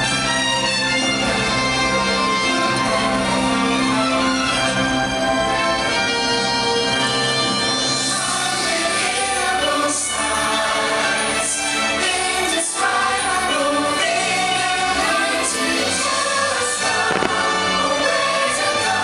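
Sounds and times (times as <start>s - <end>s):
orchestra playing: 0.0s - 19.0s
choir singing: 0.8s - 19.0s.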